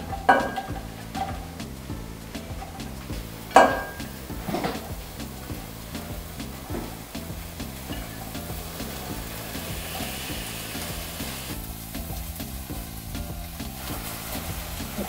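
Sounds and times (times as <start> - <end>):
vegetable strips sizzling in a pot: 0.0 - 15.0.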